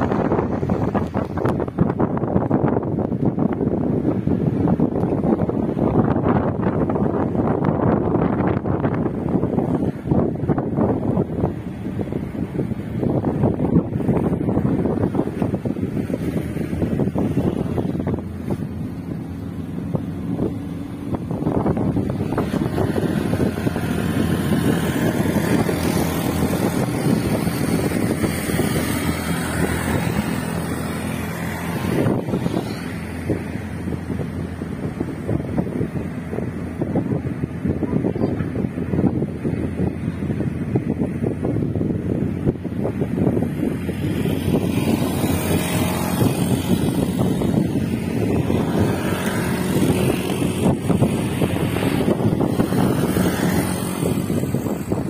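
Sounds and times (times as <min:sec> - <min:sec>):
road noise: 0:00.0 - 0:55.0
van engine hum: 0:00.0 - 0:55.0
wind noise: 0:00.0 - 0:55.0.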